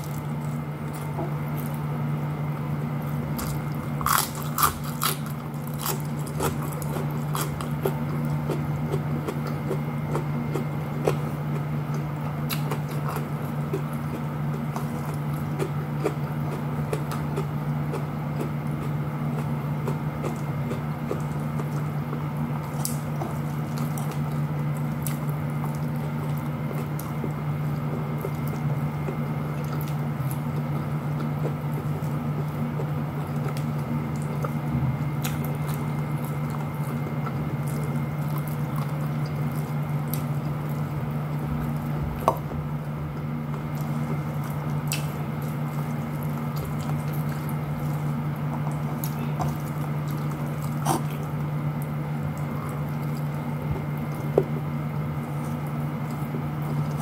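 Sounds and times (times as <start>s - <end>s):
chewing: 0.0s - 57.0s
steady low hum: 0.0s - 57.0s.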